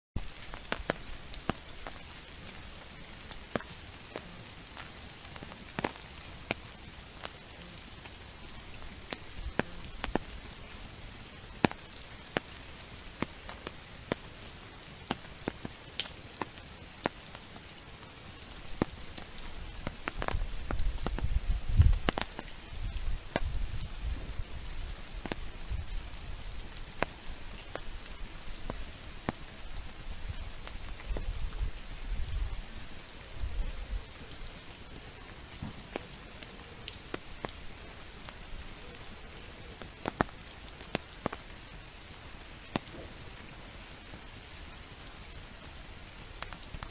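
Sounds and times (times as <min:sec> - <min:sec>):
sharp drips ticking: 0:00.2 - 0:32.0, 0:34.0 - 0:46.9
steady rain falling: 0:00.2 - 0:46.9.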